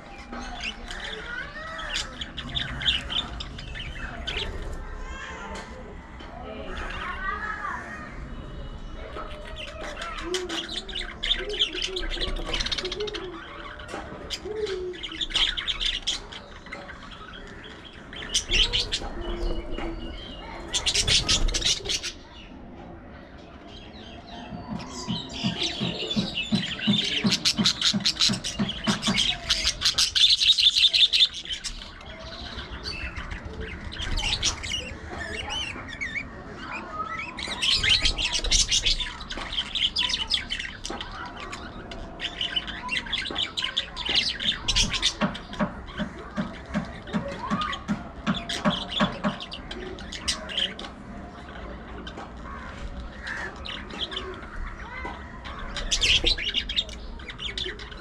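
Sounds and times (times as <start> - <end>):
budgerigars chattering and chirping: 0.0 - 5.4, 8.8 - 22.5, 23.7 - 58.0.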